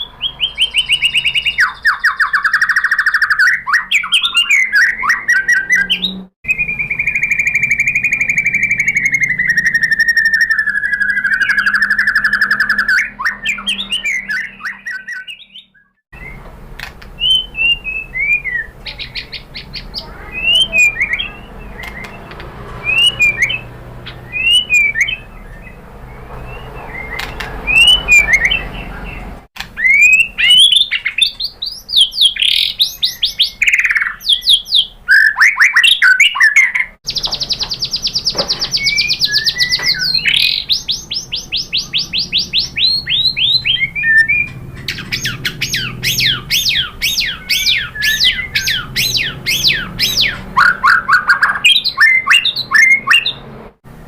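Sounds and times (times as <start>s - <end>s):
bird singing trills and whistles: 0.0s - 16.5s, 17.1s - 53.4s.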